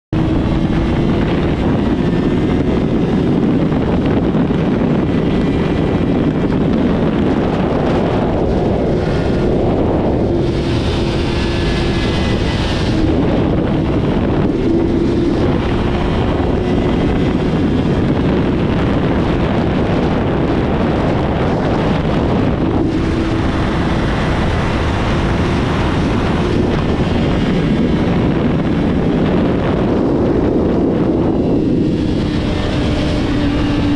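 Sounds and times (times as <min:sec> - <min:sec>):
motorcycle engine running: 0:00.1 - 0:33.9
wind noise on microphone: 0:00.1 - 0:33.9.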